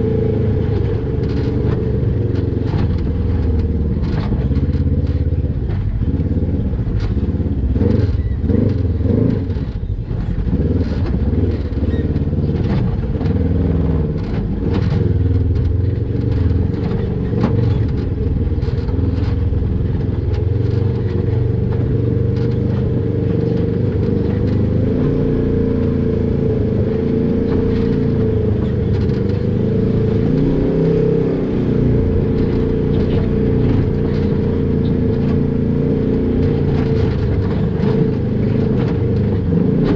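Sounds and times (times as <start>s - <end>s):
off-road vehicle engine revving: 0.0s - 39.9s
rocks and chassis clatter: 0.0s - 39.9s.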